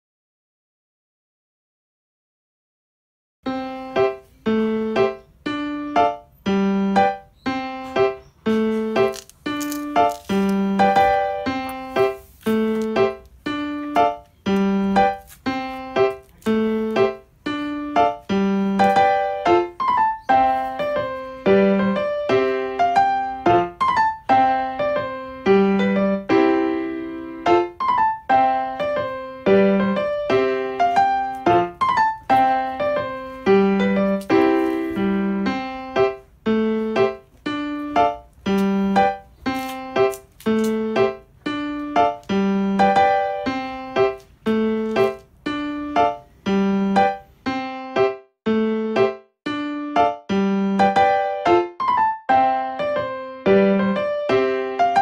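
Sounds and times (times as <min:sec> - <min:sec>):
piano music: 0:03.4 - 0:55.0.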